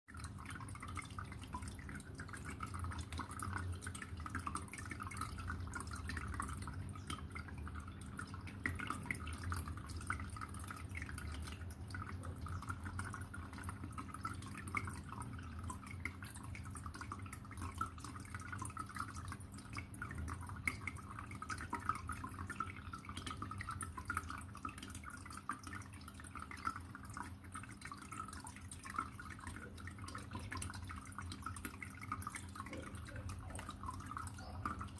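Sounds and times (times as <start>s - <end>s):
low steady hum: 0.1s - 34.9s
water trickling and dripping: 0.1s - 34.9s.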